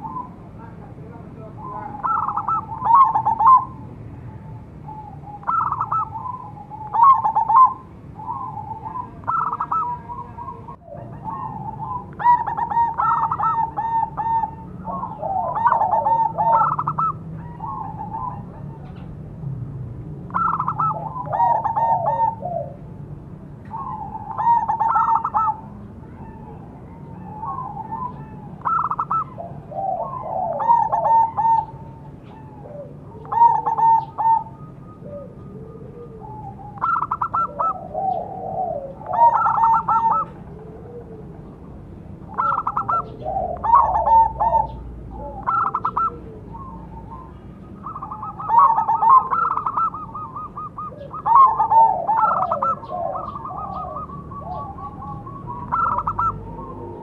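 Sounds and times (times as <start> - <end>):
lower-pitched dove calls: 0.0 - 0.5, 1.6 - 19.1, 20.3 - 22.9, 23.7 - 57.0
doves cooing: 0.0 - 57.0.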